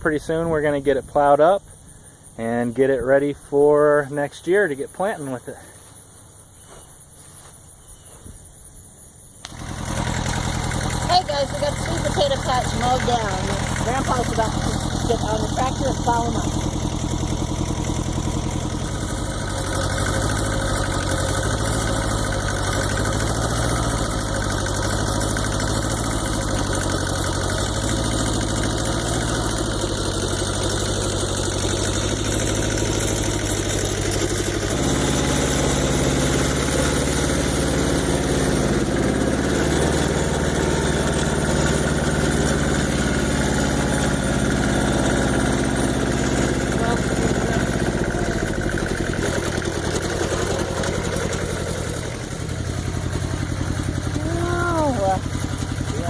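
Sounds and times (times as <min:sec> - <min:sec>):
tractor engine running: 0:00.0 - 0:07.5, 0:09.4 - 0:56.0.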